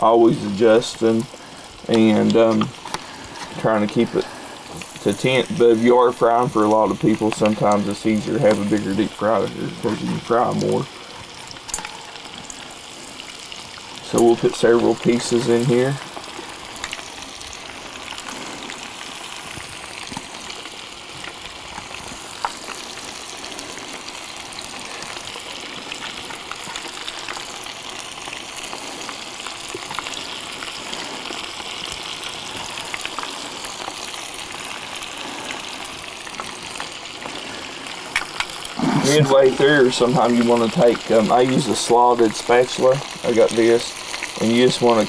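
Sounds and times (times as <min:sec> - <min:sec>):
fish frying in oil: 0:00.0 - 0:45.0
oil popping and crackling: 0:00.0 - 0:45.0.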